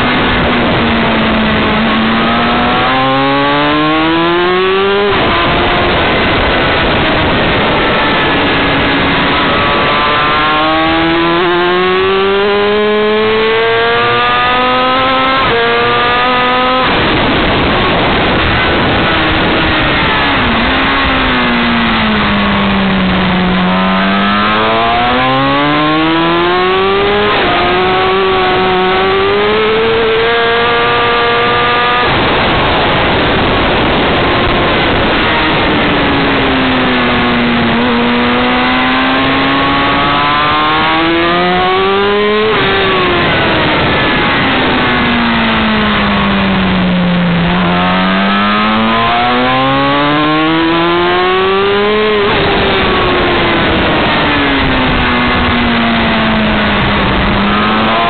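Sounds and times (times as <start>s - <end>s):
motorcycle engine revving: 0.0s - 58.0s
wind rush on microphone: 0.0s - 58.0s.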